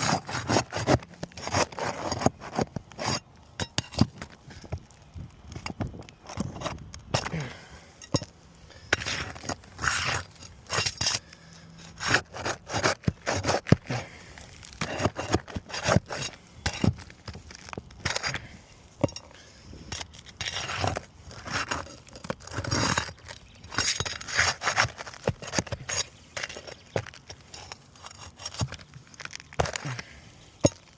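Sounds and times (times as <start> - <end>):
scraping shingles: 0.0 - 30.9.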